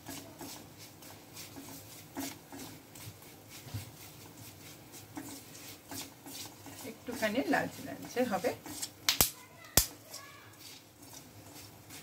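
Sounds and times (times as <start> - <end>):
spatula scraping a pan: 0.0 - 9.1, 10.0 - 12.0.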